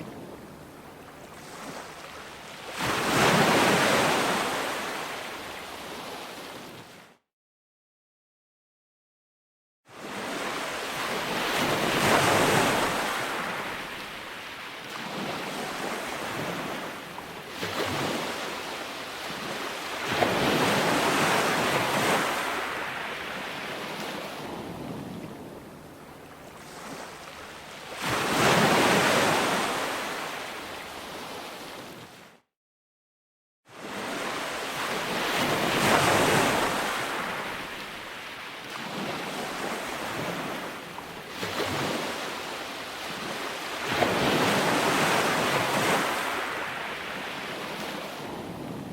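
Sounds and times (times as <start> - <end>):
ocean waves washing up a beach: 0.0 - 7.2, 9.9 - 32.4, 33.7 - 48.9.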